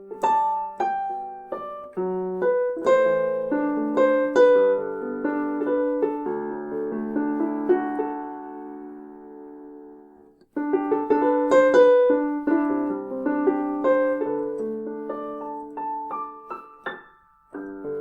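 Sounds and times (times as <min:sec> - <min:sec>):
piano-like keyboard playing: 0:00.0 - 0:18.0.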